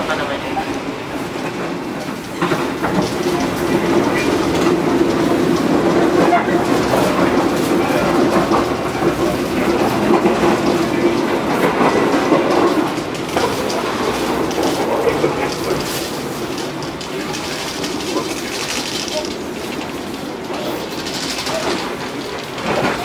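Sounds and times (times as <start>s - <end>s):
clickety-clack of rail joints: 0.0s - 23.0s
train wheels rumbling on rails: 0.0s - 23.0s.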